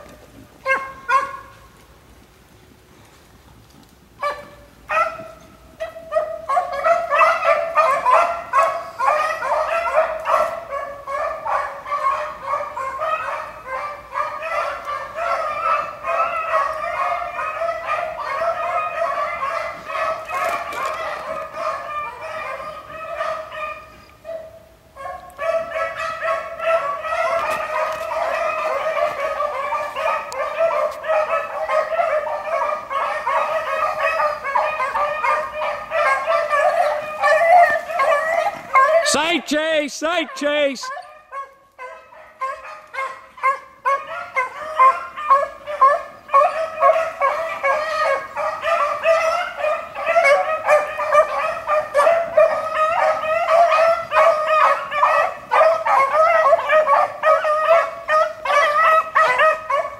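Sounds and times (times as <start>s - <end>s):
beagles baying: 4.2s - 59.9s.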